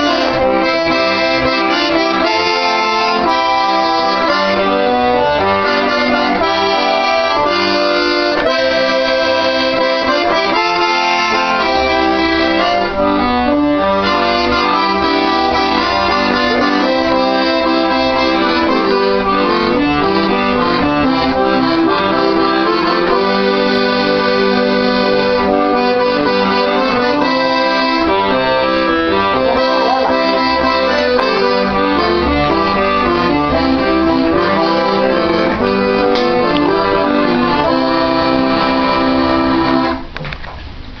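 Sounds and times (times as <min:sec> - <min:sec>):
accordion music: 0:00.0 - 0:40.2.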